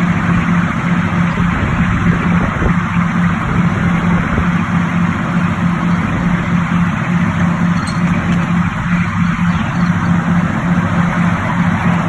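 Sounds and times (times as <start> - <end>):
miniature locomotive engine drone: 0.0 - 12.0.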